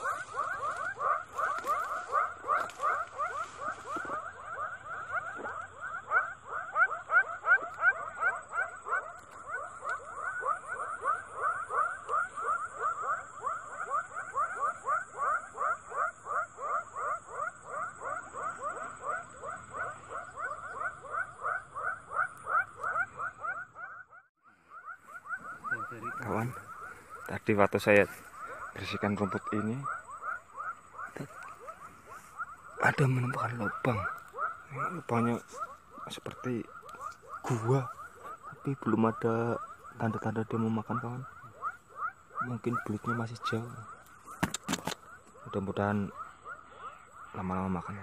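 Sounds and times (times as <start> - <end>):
high insect whine: 0.0 - 23.6, 24.6 - 48.0
frogs croaking: 0.0 - 48.0.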